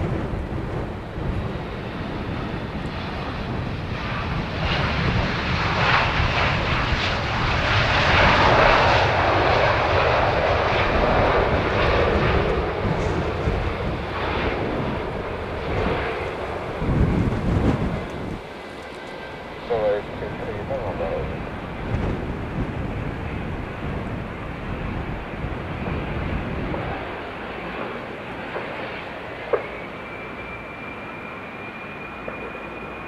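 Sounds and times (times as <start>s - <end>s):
jet airliner roar with reverse thrust: 0.0s - 33.0s.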